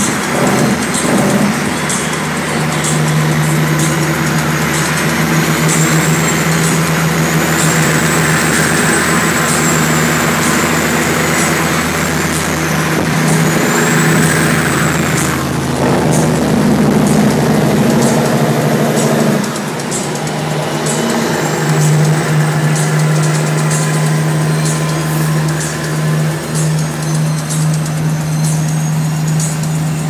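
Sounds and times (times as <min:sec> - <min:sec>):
diesel truck engines running: 0:00.0 - 0:30.0.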